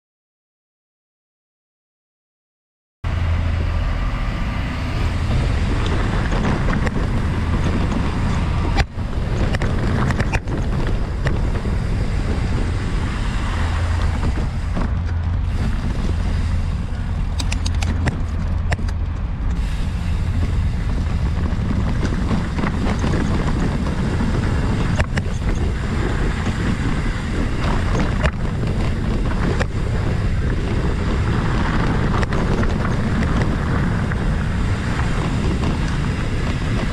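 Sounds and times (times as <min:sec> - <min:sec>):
tyres on dirt: 0:03.1 - 0:36.9
wind buffeting microphone: 0:03.1 - 0:36.9.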